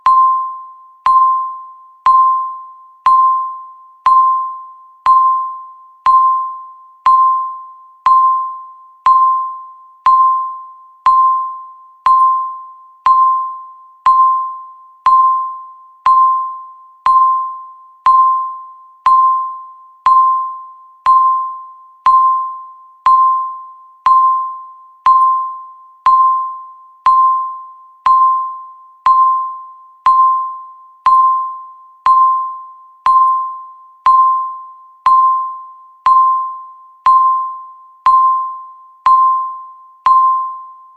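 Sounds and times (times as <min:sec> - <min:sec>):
countdown timer beeps: 0:00.0 - 0:40.9.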